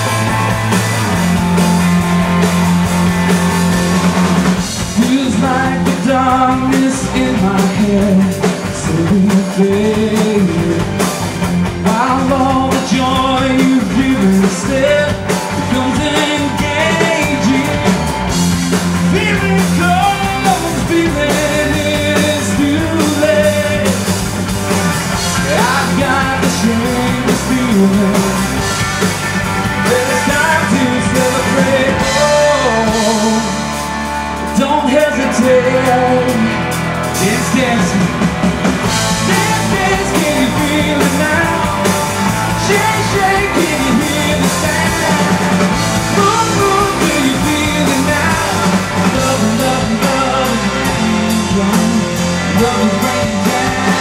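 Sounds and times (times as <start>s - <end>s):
lead vocal singing: 0.0s - 24.3s, 25.1s - 54.0s
live pop-rock band playing: 0.0s - 54.0s.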